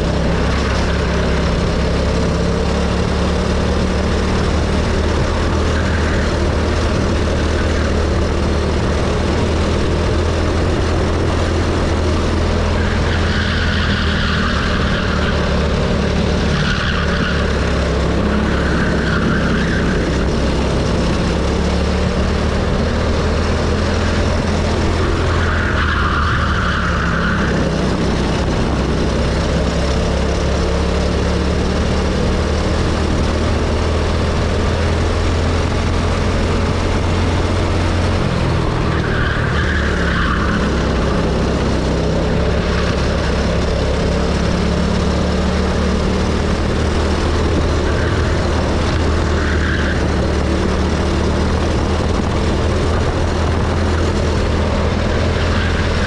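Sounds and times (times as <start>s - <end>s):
go-kart engine droning: 0.0s - 56.0s.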